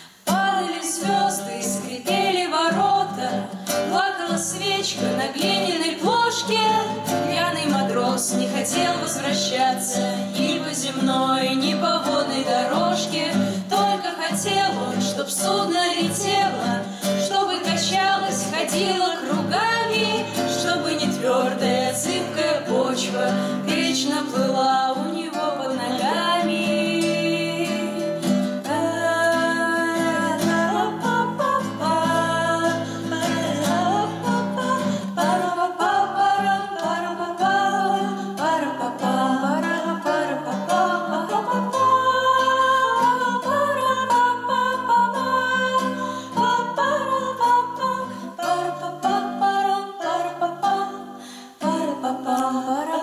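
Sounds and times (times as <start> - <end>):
acoustic guitar: 0.0 - 53.0
women singing together: 0.0 - 53.0.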